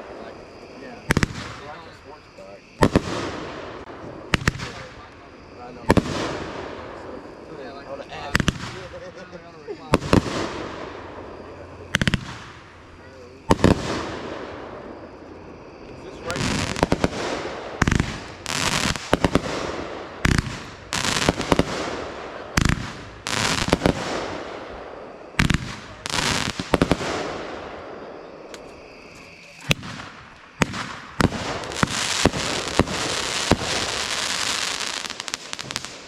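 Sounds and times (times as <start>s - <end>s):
fireworks banging and crackling: 0.0s - 15.4s, 16.0s - 36.0s.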